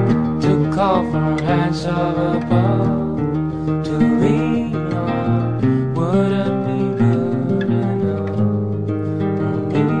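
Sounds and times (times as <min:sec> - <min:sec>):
acoustic guitar song: 0:00.0 - 0:10.0.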